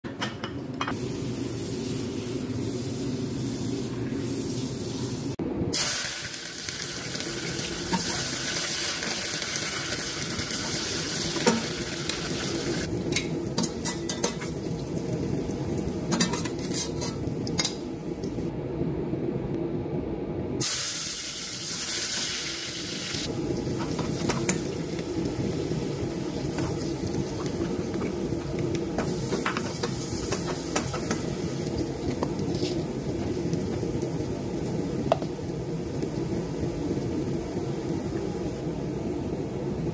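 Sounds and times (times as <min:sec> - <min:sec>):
onions sizzling in hot oil: 0:00.9 - 0:18.5, 0:20.6 - 0:39.9.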